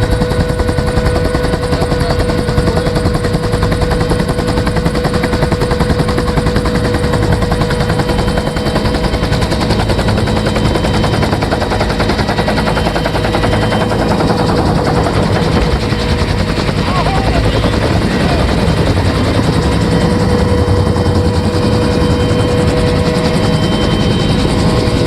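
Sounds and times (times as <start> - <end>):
helicopter rotor blade slap: 0.0 - 25.0
turbine whine: 0.0 - 25.0.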